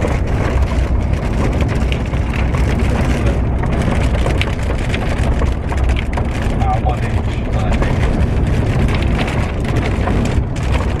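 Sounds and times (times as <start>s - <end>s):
heavy rain on a vehicle: 0.0s - 11.0s
low rumble: 0.0s - 11.0s.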